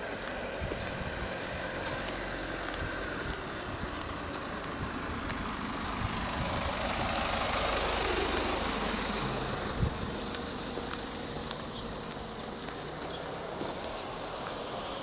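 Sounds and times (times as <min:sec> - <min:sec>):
road traffic noise: 0:00.0 - 0:15.0
vehicle approaching: 0:00.0 - 0:15.0.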